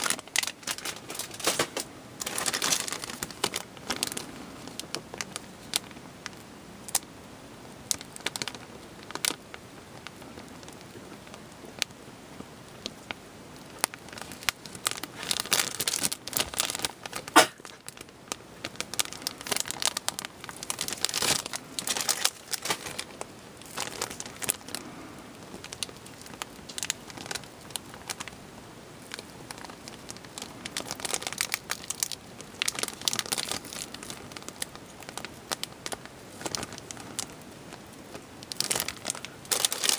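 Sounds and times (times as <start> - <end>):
plastic bags crinkling: 0.0 - 7.1, 7.8 - 11.9, 12.7 - 39.9.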